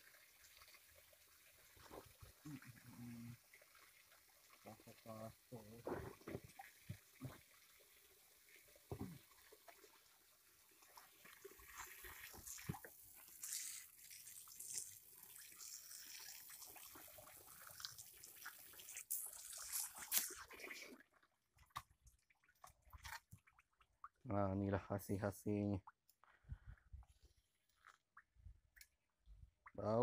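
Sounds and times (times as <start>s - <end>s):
water dripping and splashing: 0.0s - 24.3s.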